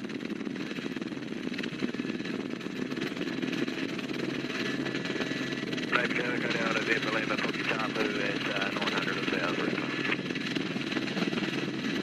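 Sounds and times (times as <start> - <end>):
aircraft engine pulsing: 0.0 - 12.0.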